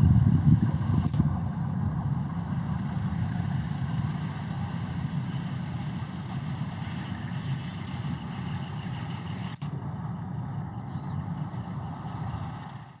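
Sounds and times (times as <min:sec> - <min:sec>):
train coaches rumbling past: 0:00.0 - 0:13.0.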